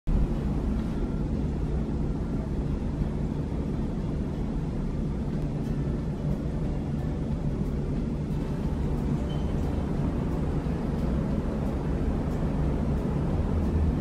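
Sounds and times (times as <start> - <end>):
low rumble: 0.1 - 14.0.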